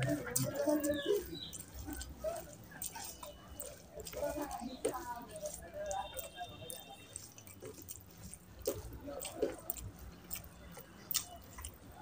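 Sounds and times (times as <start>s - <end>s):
fingers squelching food: 0.0s - 12.0s
mouth smacks and clicks: 0.0s - 12.0s
wet chewing: 0.0s - 12.0s.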